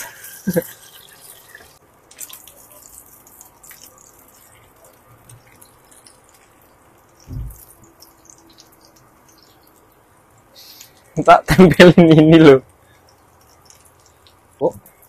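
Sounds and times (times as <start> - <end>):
oil sizzling in a frying pan: 0.0 - 11.2, 12.6 - 15.0.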